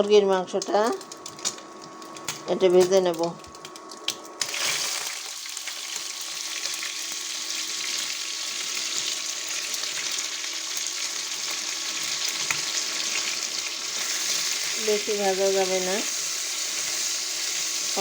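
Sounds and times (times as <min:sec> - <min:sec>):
chicken sizzling in hot oil: 0:00.6 - 0:18.0.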